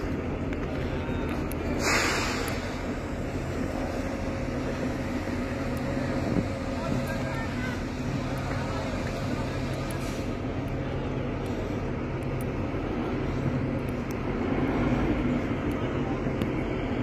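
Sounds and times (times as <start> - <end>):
low mechanical hum: 0.0 - 17.0
train rumbling: 0.0 - 17.0.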